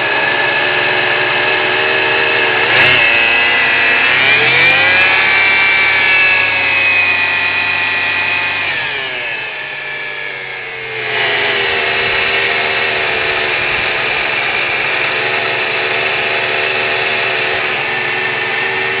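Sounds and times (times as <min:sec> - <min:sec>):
high-pitched whine: 0:00.0 - 0:19.0
vehicle engine running: 0:00.0 - 0:19.0.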